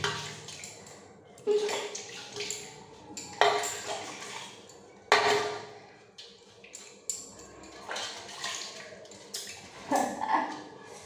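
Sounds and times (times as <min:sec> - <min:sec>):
clanks in a metal basin: 0:00.0 - 0:10.7
water splashing: 0:00.0 - 0:10.8.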